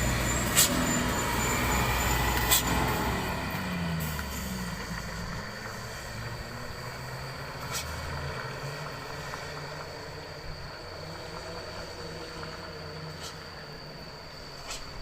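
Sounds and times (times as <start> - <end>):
brakes squealing: 0.0 - 15.0
diesel engine running low: 0.0 - 15.0.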